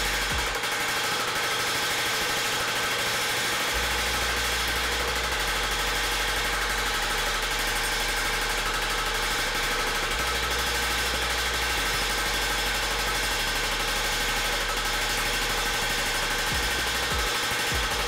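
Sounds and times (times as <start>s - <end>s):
power hammer pounding sheet metal: 0.0s - 18.0s.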